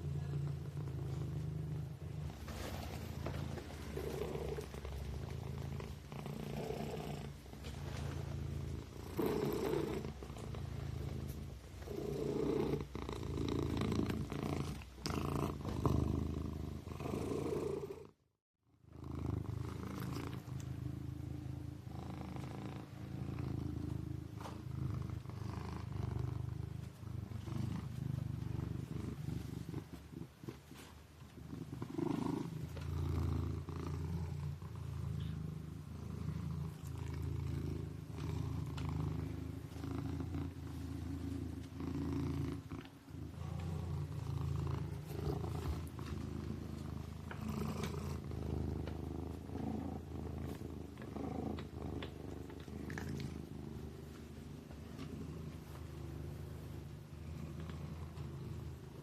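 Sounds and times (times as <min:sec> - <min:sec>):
kitten purring: 0:00.0 - 0:18.2, 0:18.8 - 0:59.0.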